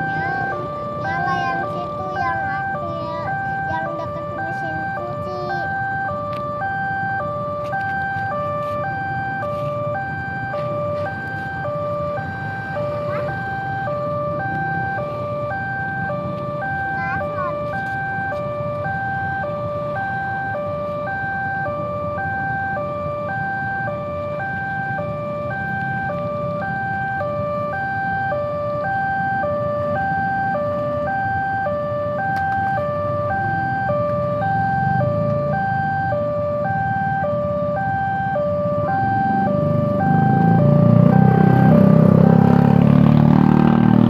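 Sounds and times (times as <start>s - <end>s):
level crossing two-tone alarm: 0.0s - 43.9s.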